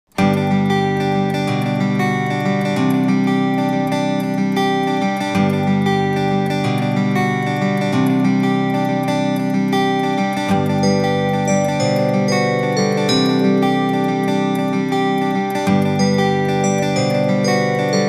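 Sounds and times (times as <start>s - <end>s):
guitar playing plucked chords: 0.1s - 18.0s.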